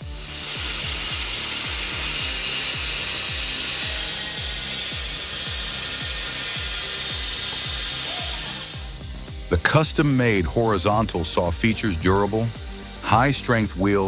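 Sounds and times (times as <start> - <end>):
background music with low beat: 0.0 - 14.0
power saw cutting wood: 0.0 - 14.0.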